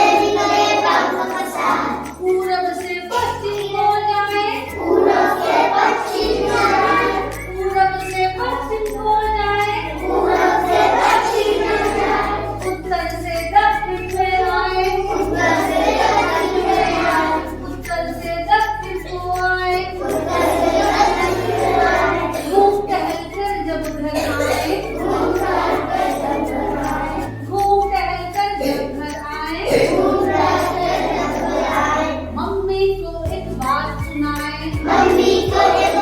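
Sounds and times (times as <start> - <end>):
children's song singing: 0.0 - 36.0
musical backing track with bass: 0.0 - 36.0.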